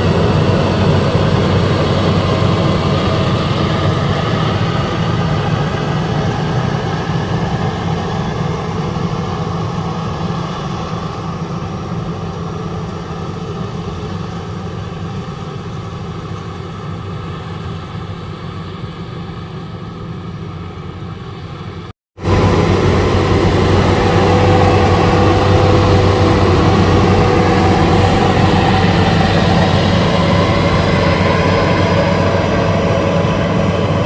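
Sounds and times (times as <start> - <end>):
combine harvester engine humming: 0.0 - 34.0.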